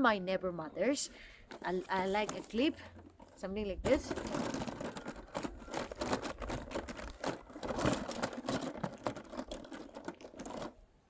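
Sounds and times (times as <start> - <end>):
plastic packaging crinkling: 1.5 - 10.8.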